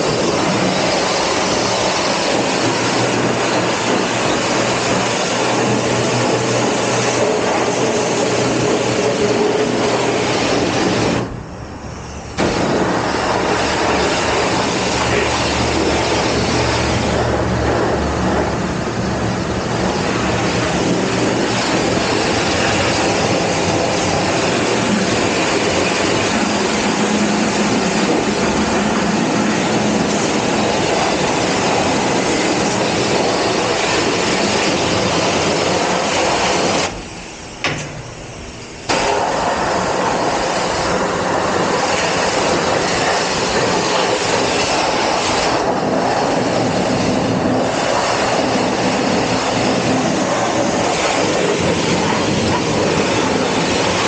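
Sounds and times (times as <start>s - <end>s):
pressure washer spraying: 0.0s - 54.0s.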